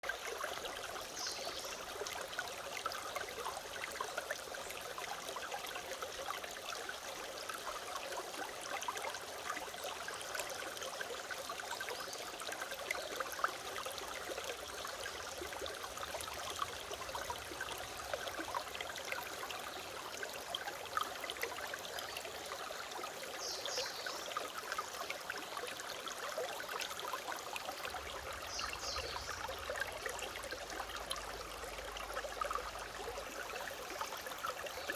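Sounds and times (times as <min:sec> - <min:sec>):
mountain stream flowing: 0:00.0 - 0:34.9.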